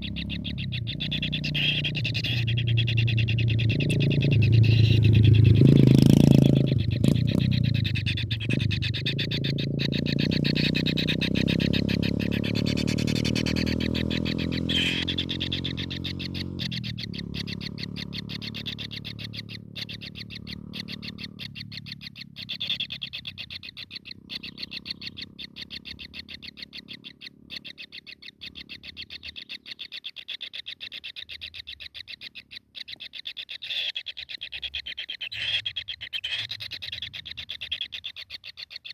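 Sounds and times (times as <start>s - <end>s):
kingfisher rattling call: 0.0s - 38.9s.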